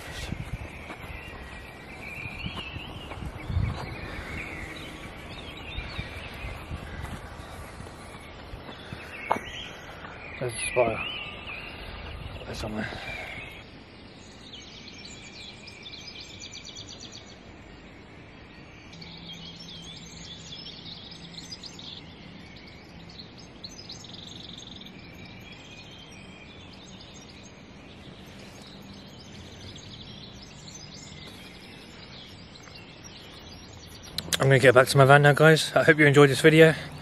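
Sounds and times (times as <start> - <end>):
small birds chirping and singing: 0.0 - 37.0.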